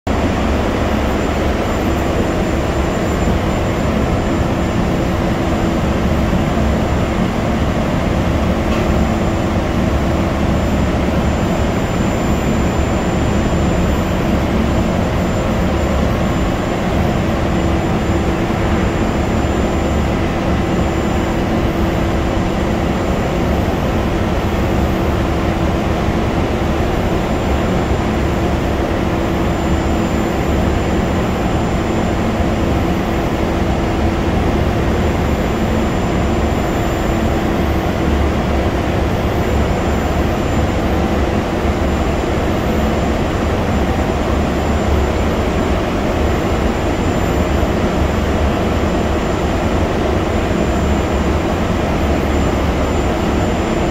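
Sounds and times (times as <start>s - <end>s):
faint high whine: 0.1s - 53.9s.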